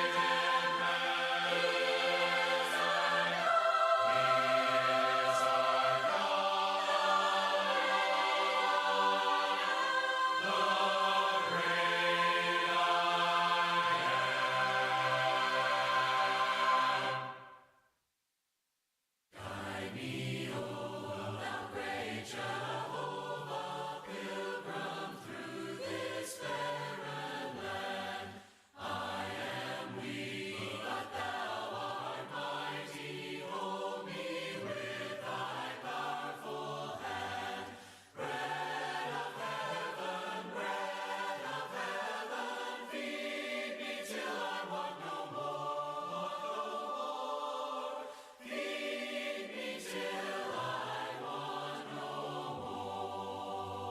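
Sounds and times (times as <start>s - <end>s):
choir singing a hymn: 0.0s - 17.6s, 19.4s - 53.9s.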